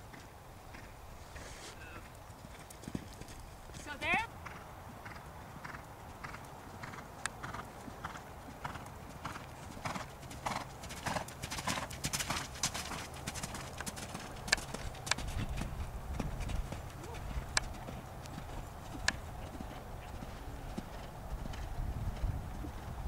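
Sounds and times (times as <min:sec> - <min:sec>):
horse hoofbeats on sand: 0:00.0 - 0:23.0
sharp hoof clicks: 0:00.1 - 0:23.0.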